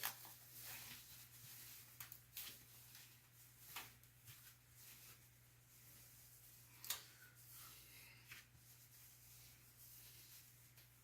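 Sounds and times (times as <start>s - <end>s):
cloth rustling: 0.0s - 11.0s.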